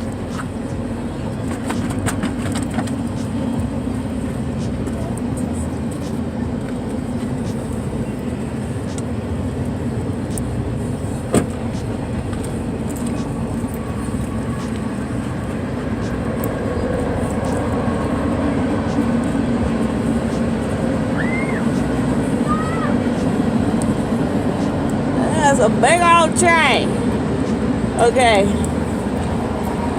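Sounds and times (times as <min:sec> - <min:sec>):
train rumbling past: 0:00.0 - 0:29.9.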